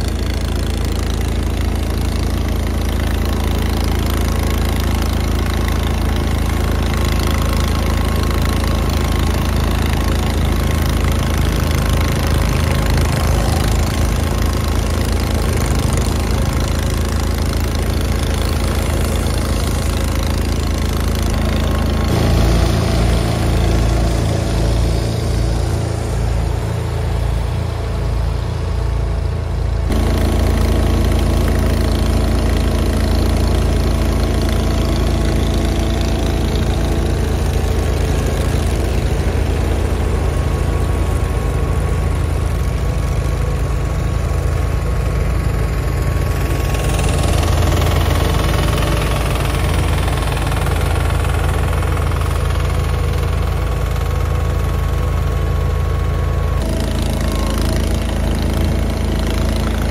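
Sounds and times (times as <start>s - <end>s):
garden tractor engines running: 0.0s - 59.9s.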